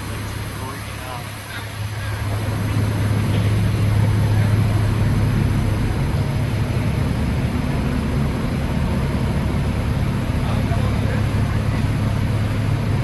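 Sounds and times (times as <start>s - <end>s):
road noise: 0.0s - 13.0s
truck engine drone: 0.0s - 13.0s.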